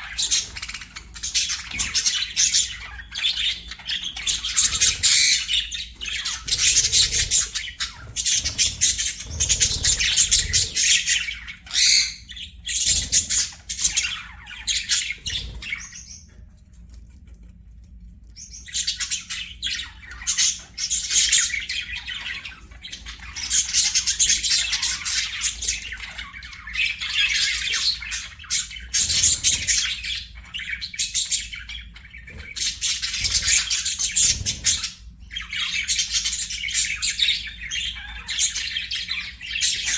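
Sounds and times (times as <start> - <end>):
budgerigars chattering: 0.0 - 16.3, 18.4 - 39.9.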